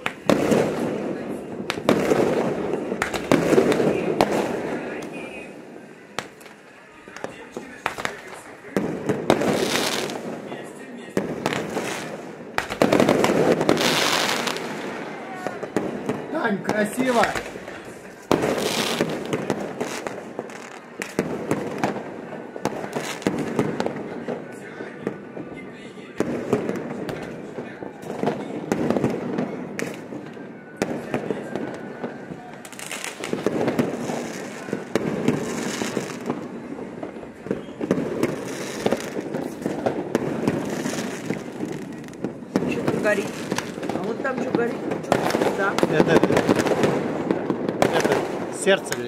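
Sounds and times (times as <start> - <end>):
fireworks bangs: 0.0 - 49.0
fireworks crackling: 0.0 - 49.0.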